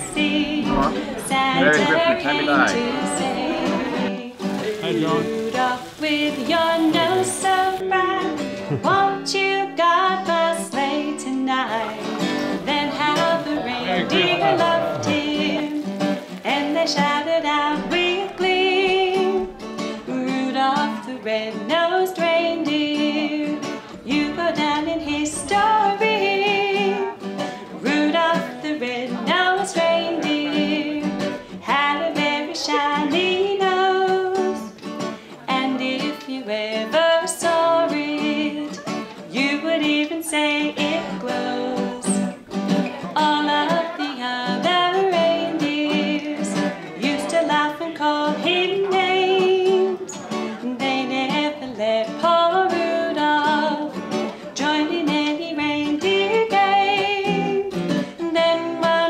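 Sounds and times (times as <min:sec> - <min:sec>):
acoustic guitar strumming: 0:00.0 - 0:59.0
person singing: 0:00.0 - 0:59.0.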